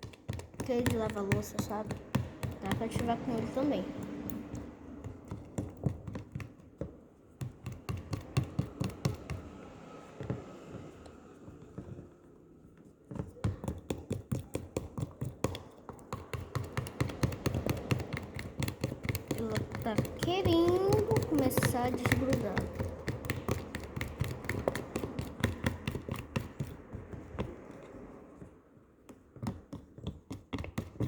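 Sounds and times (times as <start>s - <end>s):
utensil tapping container sides: 0.0s - 9.5s, 13.1s - 28.5s.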